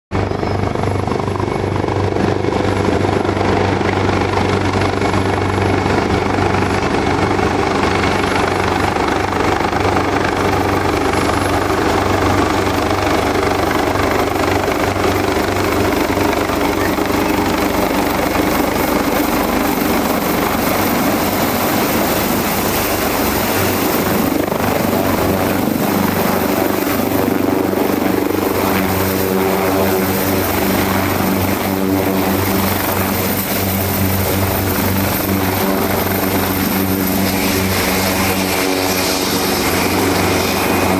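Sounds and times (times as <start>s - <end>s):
helicopter rotor drone: 0.1s - 40.9s
high turbine whine: 0.1s - 40.9s.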